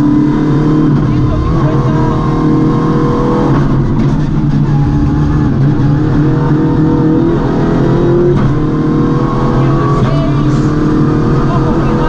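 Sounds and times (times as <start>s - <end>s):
car engine accelerating: 0.0s - 12.0s
tyre and road noise: 0.0s - 12.0s.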